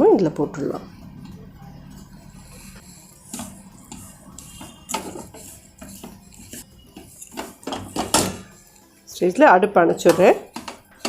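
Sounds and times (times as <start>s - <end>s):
spoon scraping and knocking pan: 0.7s - 11.0s.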